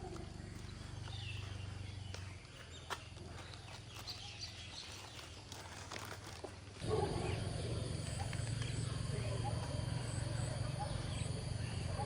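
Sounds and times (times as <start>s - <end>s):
birds chirping: 0.0s - 5.6s, 6.8s - 12.0s.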